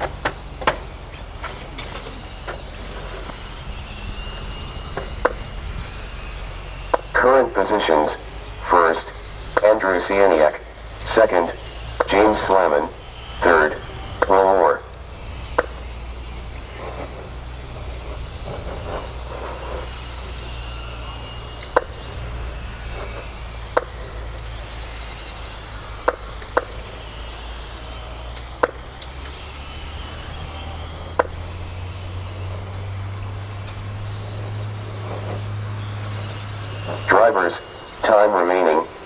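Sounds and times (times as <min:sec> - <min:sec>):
rc car motor whine: 0:00.0 - 0:39.0
steady low hum: 0:00.0 - 0:39.0.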